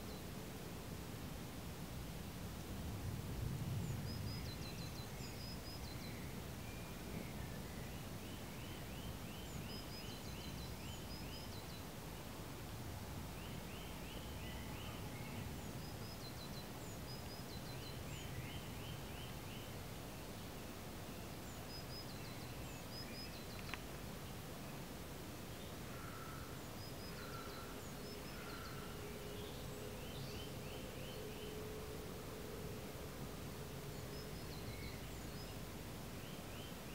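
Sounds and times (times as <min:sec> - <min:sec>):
low background noise: 0:00.0 - 0:36.9
songbirds chirping trills: 0:03.4 - 0:36.9.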